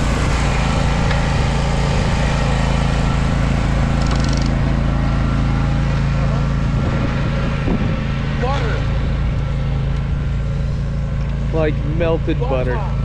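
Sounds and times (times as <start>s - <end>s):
mower engine running steadily: 0.0s - 13.0s.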